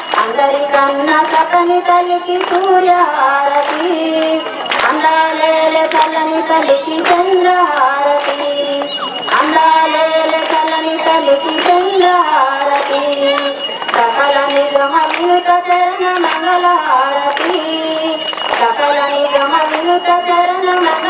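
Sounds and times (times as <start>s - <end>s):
bells jingling: 0.0s - 21.0s
woman singing devotional song: 0.0s - 21.0s
women's voices singing: 0.0s - 21.0s.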